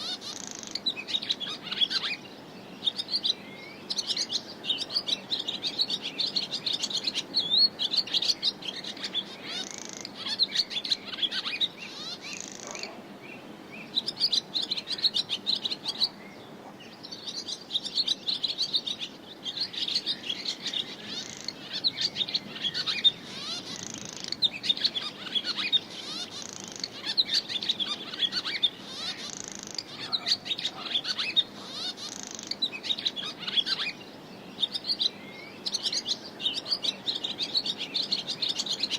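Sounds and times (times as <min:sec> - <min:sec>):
swallow twittering: 0:00.0 - 0:38.9.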